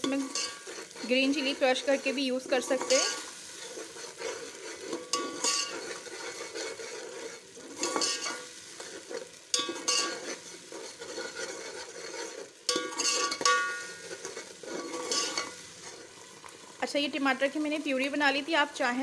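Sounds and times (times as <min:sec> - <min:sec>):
spatula scraping pot bottom: 0:00.0 - 0:16.4
masala sizzling in oil: 0:00.0 - 0:19.0.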